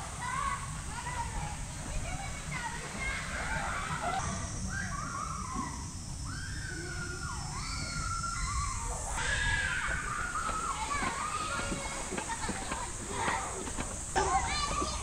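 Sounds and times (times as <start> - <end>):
distant children shouting: 0.0 - 15.0.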